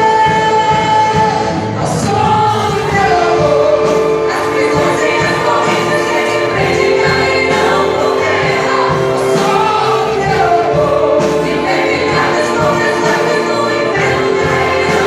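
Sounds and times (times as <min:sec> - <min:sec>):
orchestra playing gospel music: 0:00.0 - 0:15.0
voices singing: 0:00.0 - 0:15.0.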